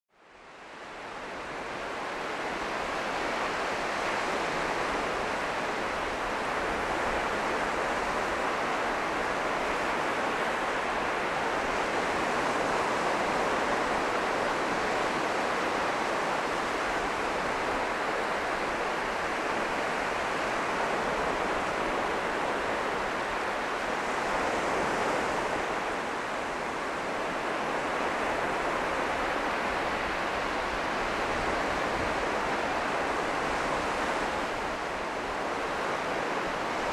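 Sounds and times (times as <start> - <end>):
waves breaking on pebbly beach: 1.4 - 36.9.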